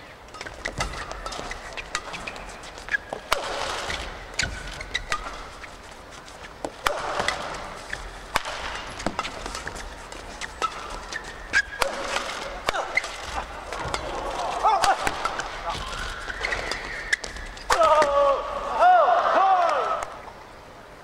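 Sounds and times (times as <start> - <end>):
shoes squeaking on court floor: 0.2 - 18.1
racket hitting shuttlecock: 0.3 - 18.4.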